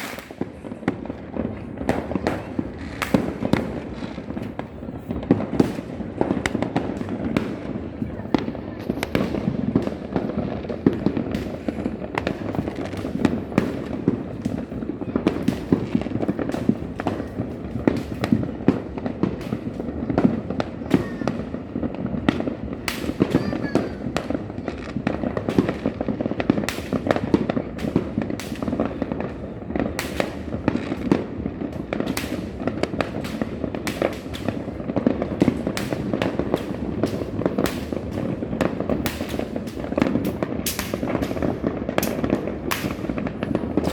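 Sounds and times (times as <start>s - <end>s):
fireworks and firecrackers: 0.0s - 43.9s.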